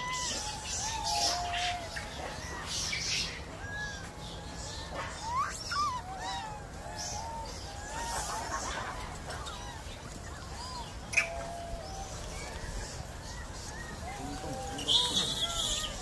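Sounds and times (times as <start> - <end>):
animals calling high: 0.0 - 16.0.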